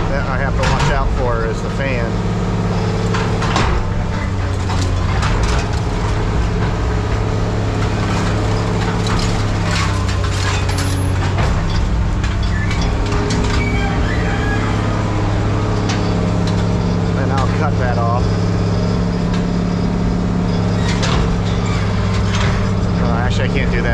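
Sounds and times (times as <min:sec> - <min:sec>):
machine engine running: 0:00.0 - 0:23.9
scrap metal crunching and clanking: 0:00.0 - 0:23.9.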